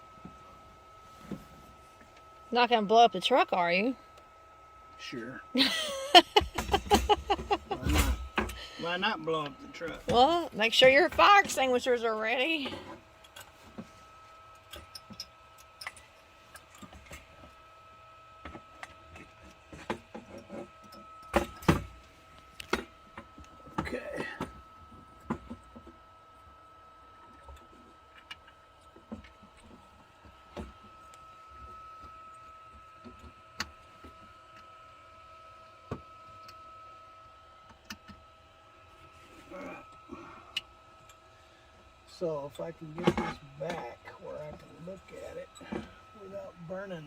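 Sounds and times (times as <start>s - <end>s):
faint high whine: 0.0s - 47.0s.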